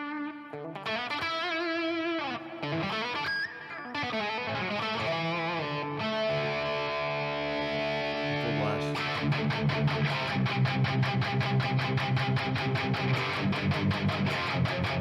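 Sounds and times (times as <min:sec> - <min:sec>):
overdriven electric guitar notes: 0:00.0 - 0:15.0.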